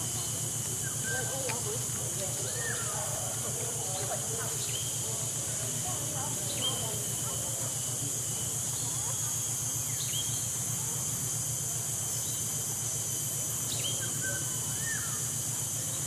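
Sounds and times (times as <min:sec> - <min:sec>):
high-pitched insect drone: 0:00.0 - 0:16.0
low pulsing hum: 0:00.0 - 0:16.0.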